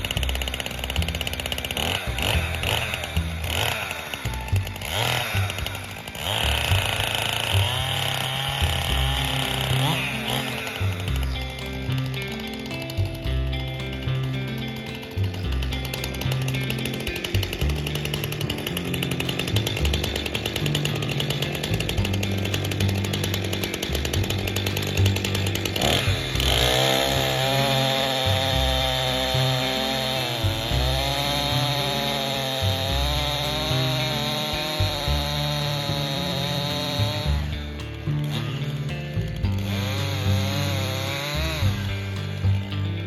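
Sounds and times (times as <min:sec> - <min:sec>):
chainsaw running at high revs: 0:00.0 - 0:43.0.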